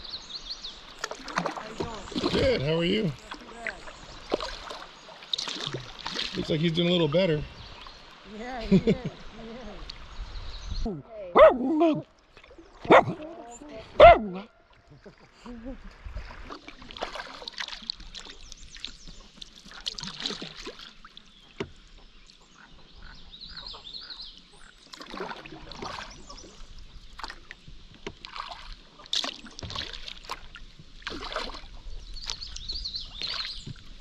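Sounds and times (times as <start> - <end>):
paddle splashing in water: 0.2 - 34.0.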